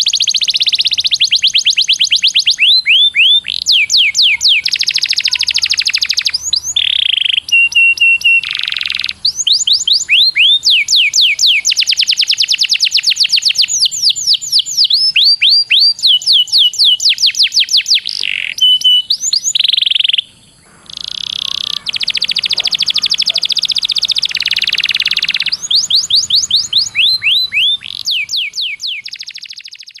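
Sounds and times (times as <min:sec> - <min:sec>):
canary singing trills: 0:00.0 - 0:30.0.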